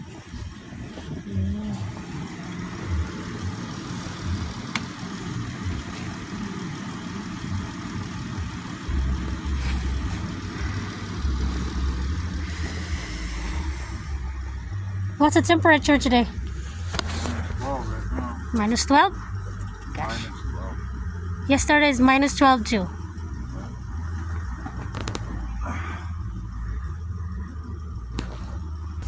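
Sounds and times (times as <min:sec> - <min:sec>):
car engine idling: 0:00.0 - 0:29.0
heavy low rumble: 0:00.0 - 0:29.0.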